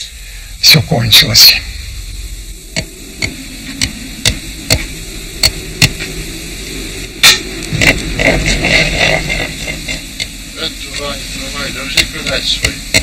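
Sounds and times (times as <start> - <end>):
steady hiss and low hum: 0.0 - 13.0.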